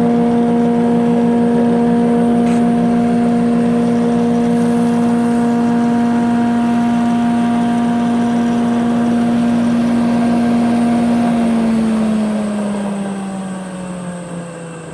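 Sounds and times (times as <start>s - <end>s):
planer coasting down: 0.0s - 14.9s
planer motor humming: 0.0s - 14.9s.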